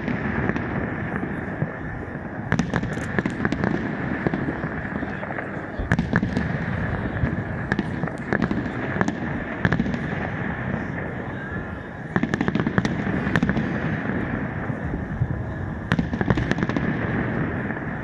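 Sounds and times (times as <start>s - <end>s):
fireworks bangs and crackles: 0.0s - 18.0s
steady background noise: 0.0s - 18.0s.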